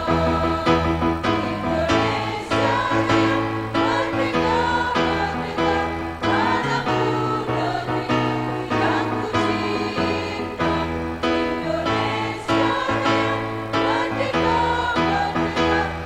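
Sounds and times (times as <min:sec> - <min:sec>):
choir singing in harmony: 0:00.0 - 0:16.0.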